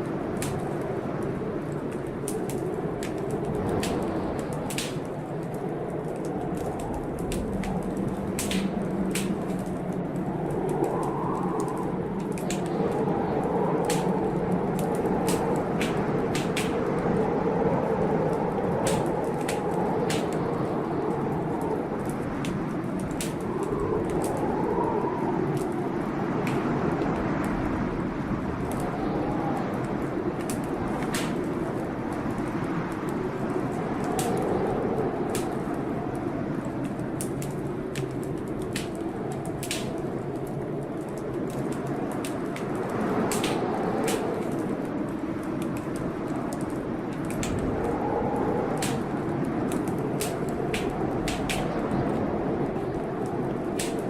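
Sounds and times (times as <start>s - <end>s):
storm rushing: 0.0s - 54.0s
wood fire crackling: 0.0s - 54.0s
fire pops: 0.2s - 17.4s, 18.0s - 54.0s.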